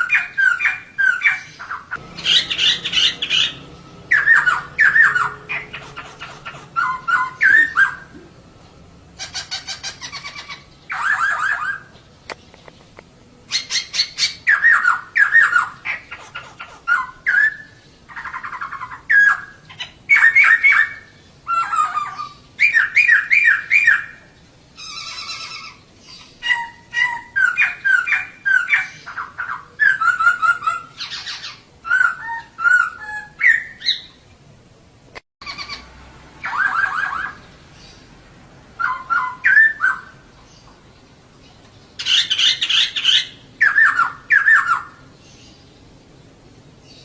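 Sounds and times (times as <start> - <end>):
bird singing chirps and whistles: 0.0 - 8.2, 9.2 - 12.0, 13.5 - 34.2, 36.4 - 37.4, 38.8 - 40.7, 42.0 - 45.6
harsh rasping bird calls: 0.0 - 34.2, 35.4 - 47.0.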